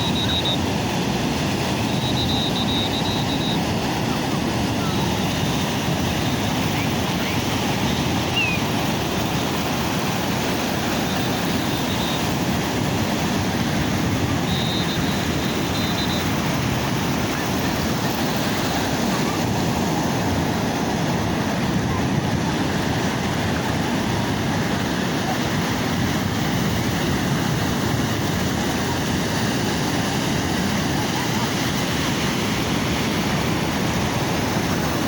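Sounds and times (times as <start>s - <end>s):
sea waves washing onto shore: 0.0s - 35.0s.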